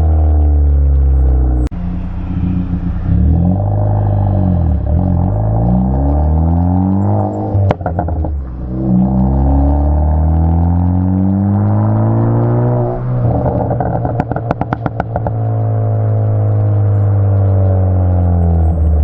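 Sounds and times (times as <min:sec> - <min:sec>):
car engine revving: 0:00.0 - 0:19.0
exhaust crackles and pops: 0:00.0 - 0:19.0.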